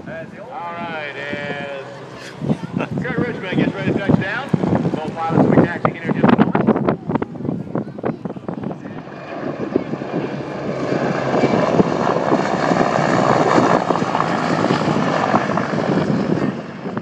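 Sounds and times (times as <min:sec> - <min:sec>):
helicopter engines and rotor: 0:00.0 - 0:17.0.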